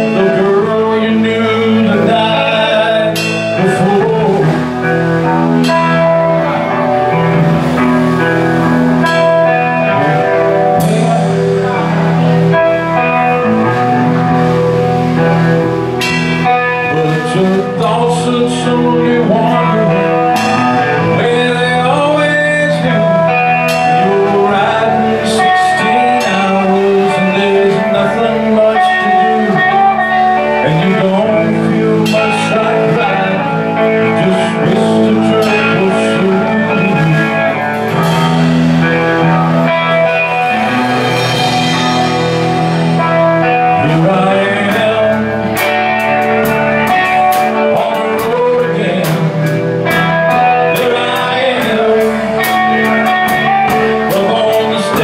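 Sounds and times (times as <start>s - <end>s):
live blues-rock band: 0.0s - 55.0s.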